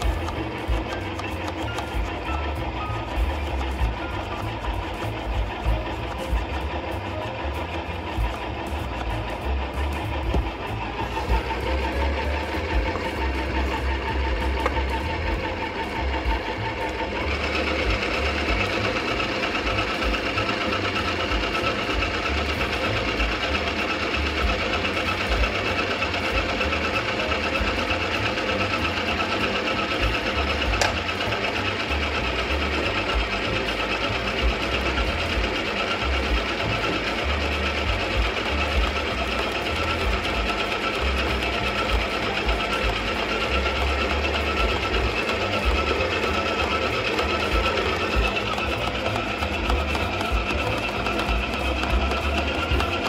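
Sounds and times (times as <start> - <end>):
stand mixer motor running: 0.0 - 53.0.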